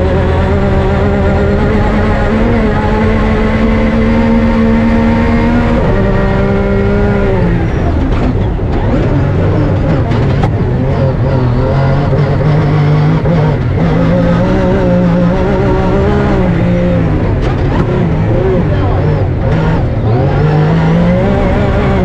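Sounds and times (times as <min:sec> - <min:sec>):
rally car engine running hard: 0:00.0 - 0:22.0.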